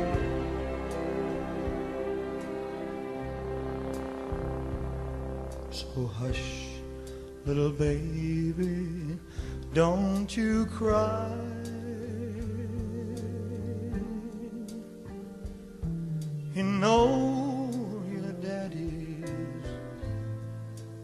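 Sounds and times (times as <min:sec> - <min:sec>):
slow song: 0:00.0 - 0:21.0.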